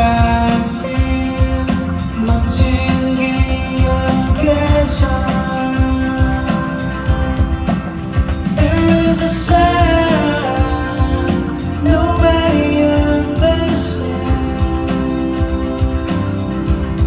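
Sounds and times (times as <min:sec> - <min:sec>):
keys or guitar: 0:00.0 - 0:17.0
man singing pop ballad: 0:00.0 - 0:17.0
steady drum beat: 0:00.0 - 0:17.0.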